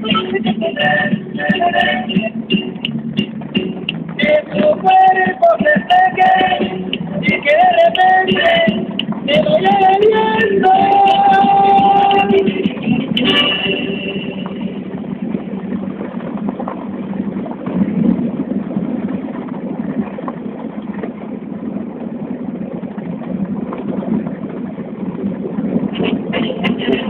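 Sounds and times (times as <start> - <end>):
road noise: 0.0 - 27.0
vehicle engine running: 0.0 - 27.0.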